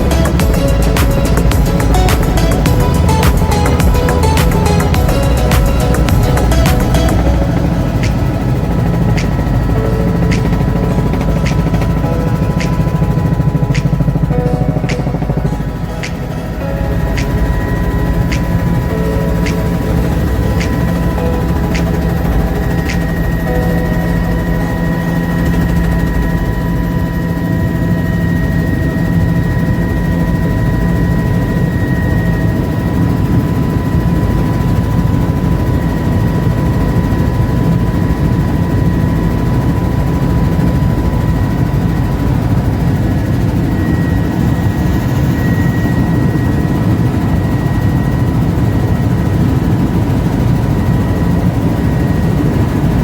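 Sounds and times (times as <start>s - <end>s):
helicopter engine and rotor noise: 0.0s - 53.0s
high whine: 0.0s - 53.0s.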